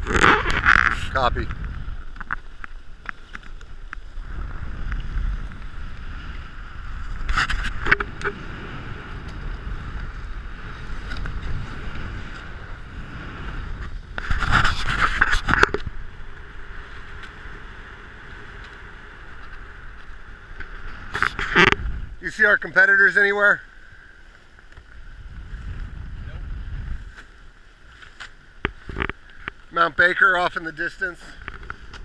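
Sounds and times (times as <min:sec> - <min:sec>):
wind buffeting microphone: 0:00.0 - 0:23.7, 0:24.6 - 0:27.6.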